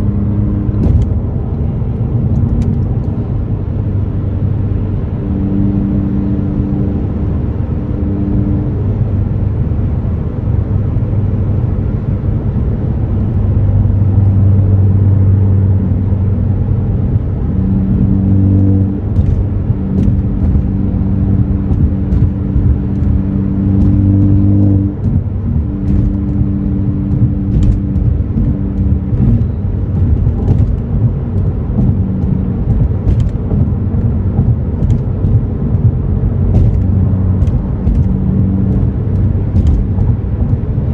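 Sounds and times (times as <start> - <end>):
car engine droning: 0.0 - 40.9
road noise: 0.0 - 40.9.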